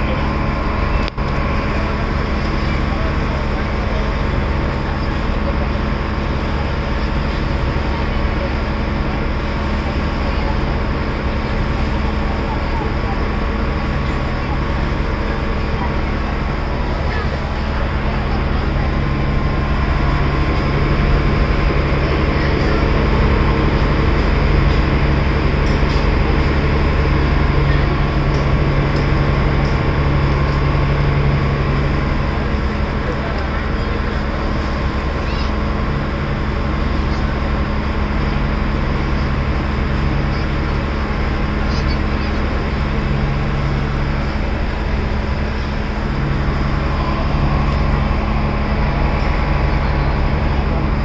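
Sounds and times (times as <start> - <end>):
boat engine droning: 0.0 - 51.0
wind and water rushing: 0.0 - 51.0.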